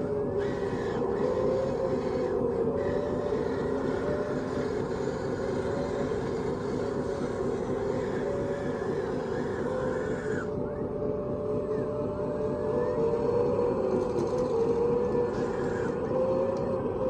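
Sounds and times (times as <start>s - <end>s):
model motor whining: 0.0s - 17.0s.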